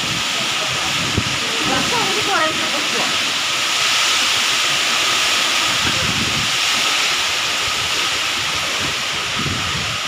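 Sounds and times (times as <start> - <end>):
heavy rain pouring: 0.0 - 10.0
wind gusts on microphone: 0.0 - 10.0.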